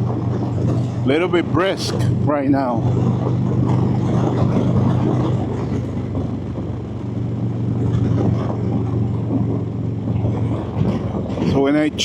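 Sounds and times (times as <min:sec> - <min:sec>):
motorcycle engine running: 0:00.0 - 0:12.0
road and air noise: 0:00.0 - 0:12.0.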